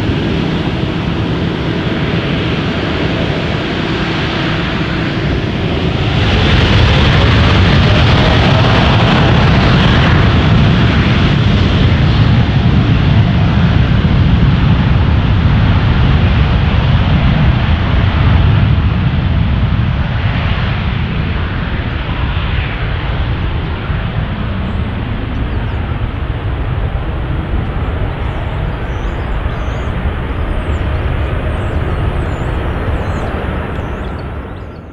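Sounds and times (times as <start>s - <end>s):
jet engine roar: 0.0s - 34.9s.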